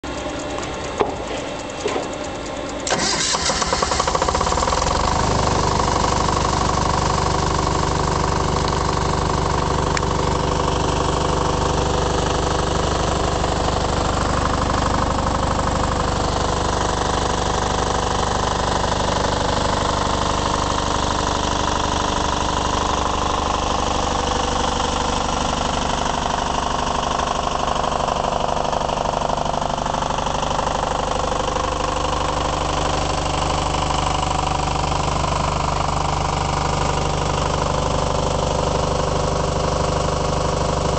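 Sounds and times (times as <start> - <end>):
diesel generator starting and running: 0.0 - 40.9.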